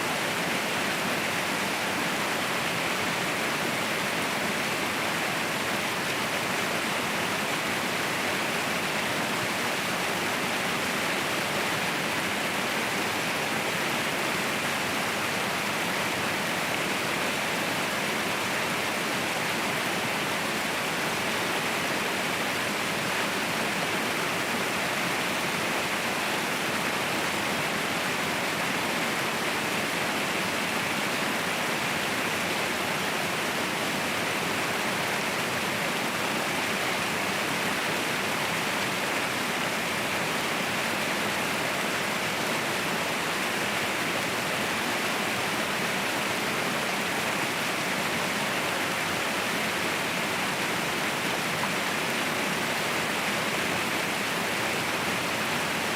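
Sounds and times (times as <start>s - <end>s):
waterfall roaring: 0.0s - 55.9s.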